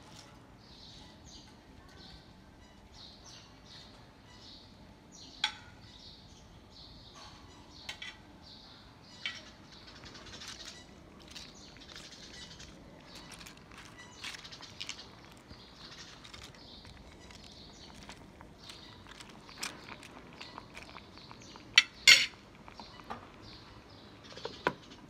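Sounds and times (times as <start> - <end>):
faint bird chirps: 0.7 - 25.0.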